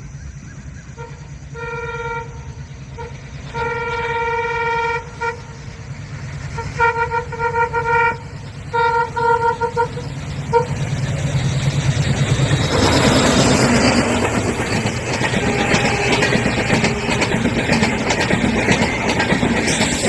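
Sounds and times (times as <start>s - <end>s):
train rumbling: 0.0s - 20.0s
train horn blasts: 0.9s - 5.8s, 6.5s - 11.3s, 12.7s - 20.0s.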